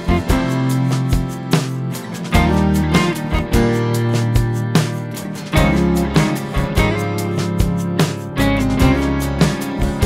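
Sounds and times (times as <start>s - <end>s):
drum hits: 0.0s - 10.0s
guitar: 0.0s - 10.0s.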